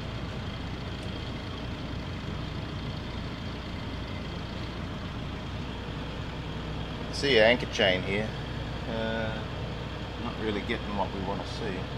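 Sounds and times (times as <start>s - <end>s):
boat engines humming: 0.0s - 11.9s.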